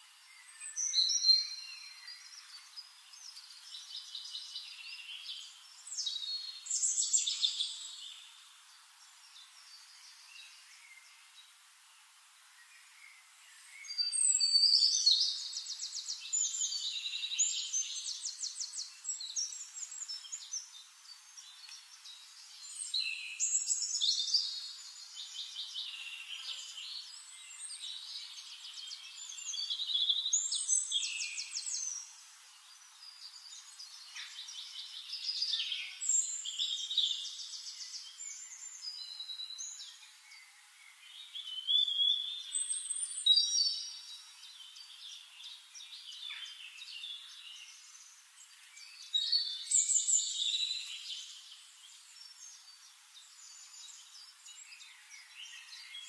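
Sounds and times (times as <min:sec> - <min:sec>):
songbird trilling and chirping: 0:00.4 - 0:08.5, 0:13.6 - 0:56.0.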